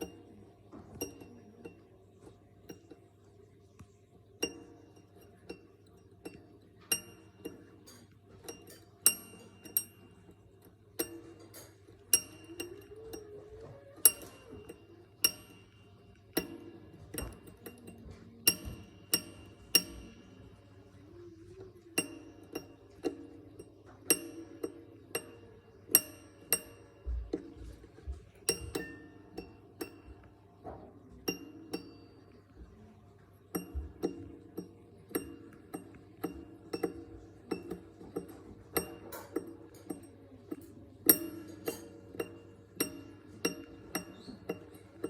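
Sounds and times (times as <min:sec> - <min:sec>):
metal struck with ringing clinks: 0:04.4 - 0:10.4, 0:11.0 - 0:20.6, 0:22.0 - 0:27.7, 0:28.5 - 0:32.3, 0:33.6 - 0:45.0.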